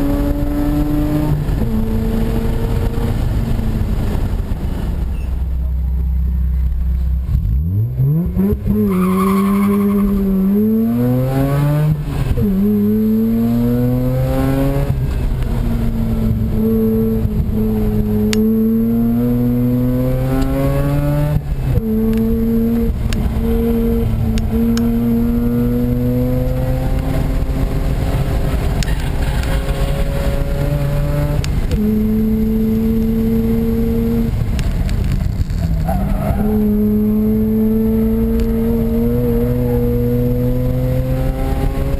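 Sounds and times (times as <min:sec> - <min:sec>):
rotary car engine revving: 0:00.0 - 0:04.8, 0:06.9 - 0:41.9.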